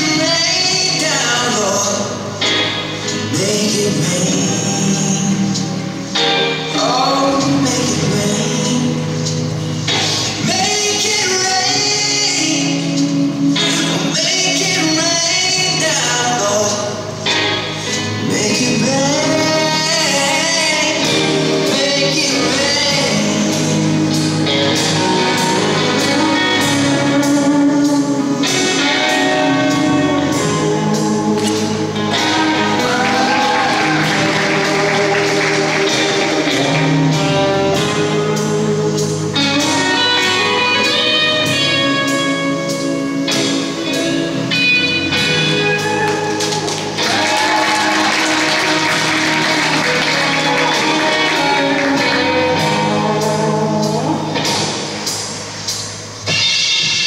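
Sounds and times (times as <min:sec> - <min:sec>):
song with singing voice: 0:00.0 - 0:57.0.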